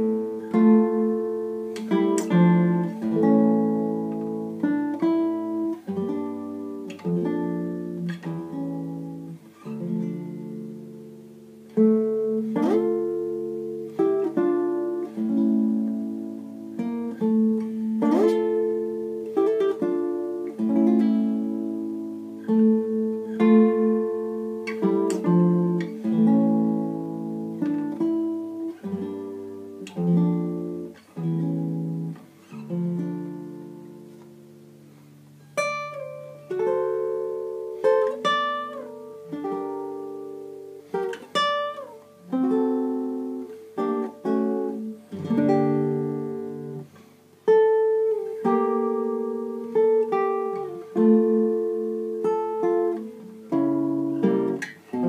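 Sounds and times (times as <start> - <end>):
classical guitar fingerstyle melody: 0.0 - 55.0.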